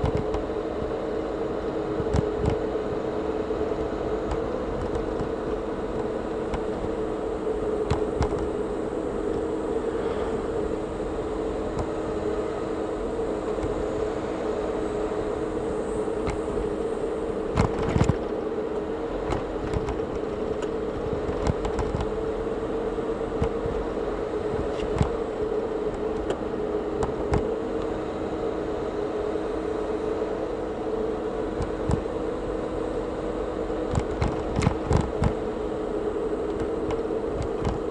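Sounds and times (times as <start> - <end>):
car driving cabin drone: 0.0 - 37.9.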